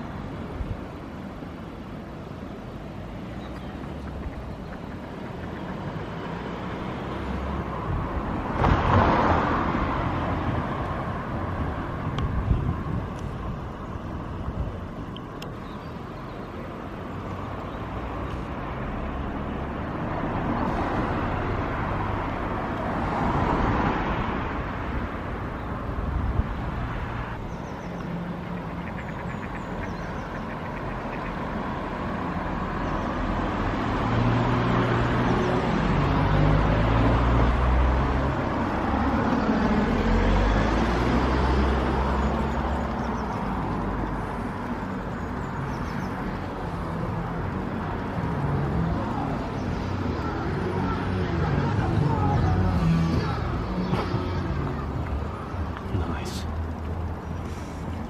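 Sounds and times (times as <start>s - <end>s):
rumbling road noise: 0.0s - 58.0s
motor vehicle passing: 3.1s - 13.5s, 17.4s - 58.0s.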